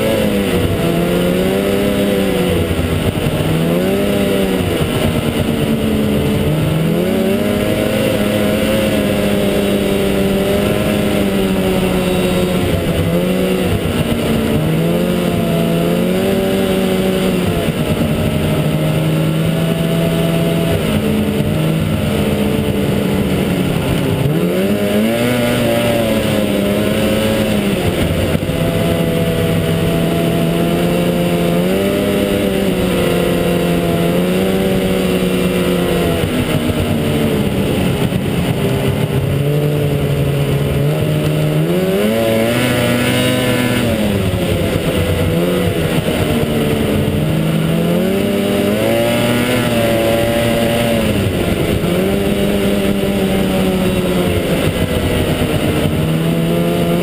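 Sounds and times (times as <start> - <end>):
snowmobile engine revving: 0.0 - 57.0
steady rushing noise: 0.0 - 57.0.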